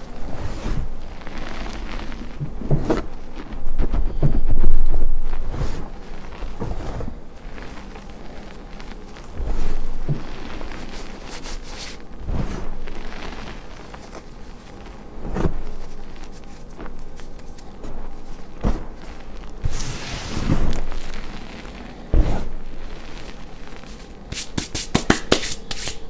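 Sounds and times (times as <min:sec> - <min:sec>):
hands rustling in chalk powder: 0:00.0 - 0:26.0.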